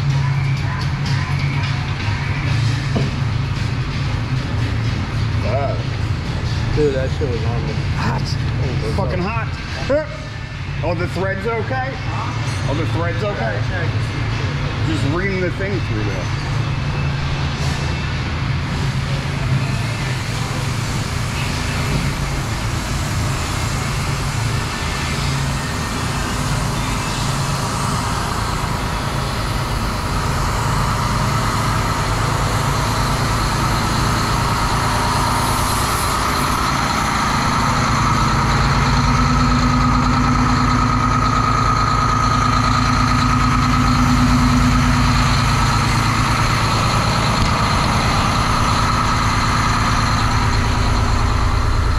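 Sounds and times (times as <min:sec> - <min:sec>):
steady whine: 0:00.0 - 0:51.9
truck diesel engine running: 0:00.0 - 0:51.9.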